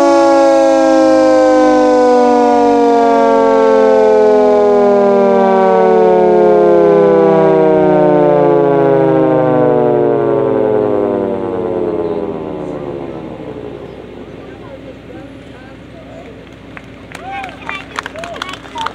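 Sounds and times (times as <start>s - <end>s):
air raid siren winding down: 0.0s - 17.5s.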